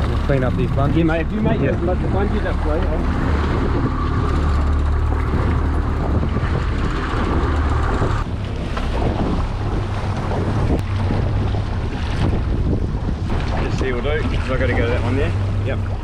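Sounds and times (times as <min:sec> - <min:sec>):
boat engine hum: 0:00.0 - 0:16.0
water rushing along hull: 0:00.0 - 0:16.0
wind buffeting microphone: 0:00.0 - 0:16.0.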